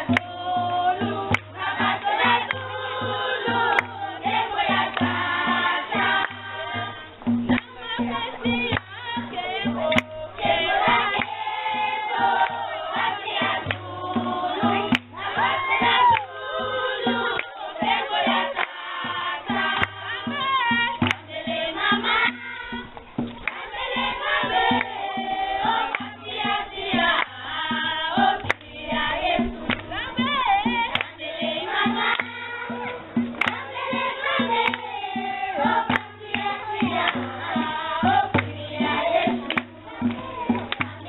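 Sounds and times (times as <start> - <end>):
children singing in chorus: 0.0 - 41.0
regular beat: 0.1 - 41.0.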